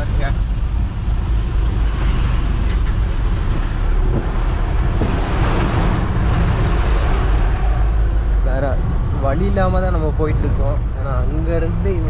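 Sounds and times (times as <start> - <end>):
vehicle interior road rumble: 0.0 - 12.0.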